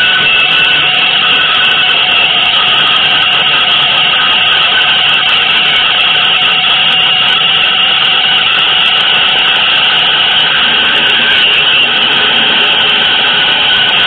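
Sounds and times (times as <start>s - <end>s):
dense noise drone: 0.0s - 14.0s.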